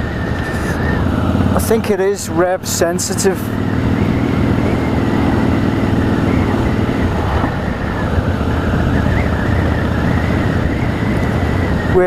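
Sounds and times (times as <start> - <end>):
wind rushing over microphone: 0.0 - 2.6, 3.2 - 12.0
motorcycle engine running: 0.0 - 12.0.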